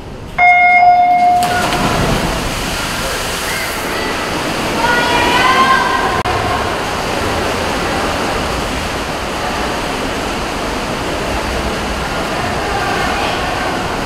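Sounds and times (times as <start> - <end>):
swimmers splashing: 0.4 - 14.0.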